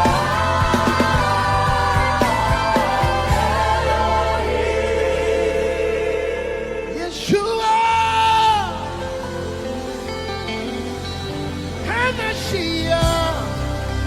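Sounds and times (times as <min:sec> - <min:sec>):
instrumental worship music backing: 0:00.0 - 0:14.0.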